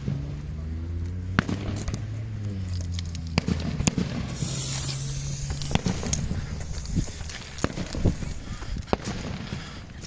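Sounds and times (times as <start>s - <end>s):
fireworks shots banging: 0.0s - 10.0s
high fireworks hiss: 1.3s - 10.0s.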